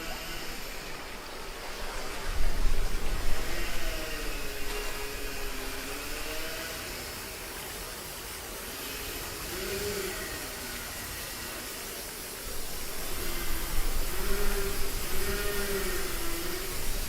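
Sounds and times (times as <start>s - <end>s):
water rushing with a hiss: 0.0s - 17.0s.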